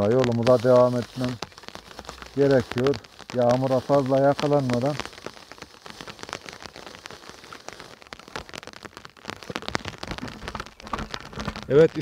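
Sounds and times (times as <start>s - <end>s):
close raindrop hits: 0.0s - 12.0s
rain falling: 0.0s - 12.0s.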